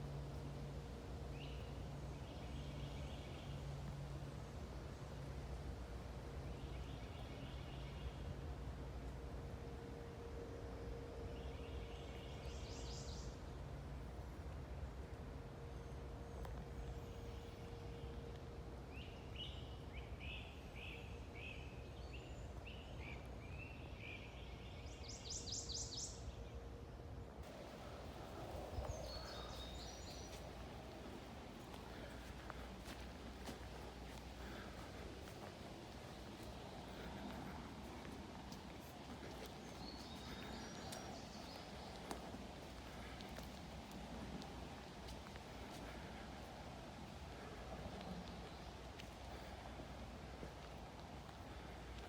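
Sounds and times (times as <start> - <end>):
low mechanical hum: 0.0 - 52.0
low outdoor rumble: 0.0 - 52.0
songbird singing: 0.0 - 52.0
birds chirping: 0.4 - 52.0.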